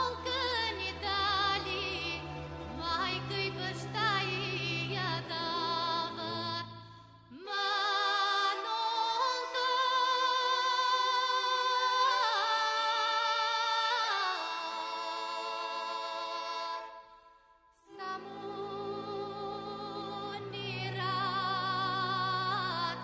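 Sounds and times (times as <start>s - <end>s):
person singing with vibrato: 0.0s - 23.0s.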